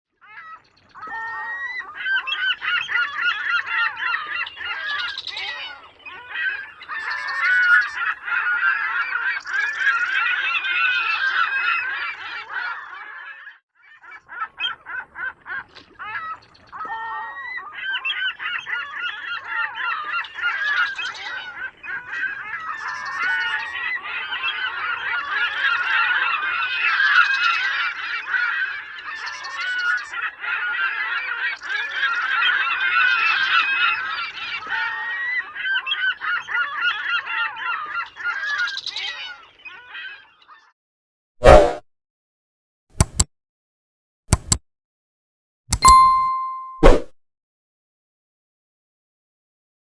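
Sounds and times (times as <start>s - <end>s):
flock of gulls calling: 0.2s - 40.7s.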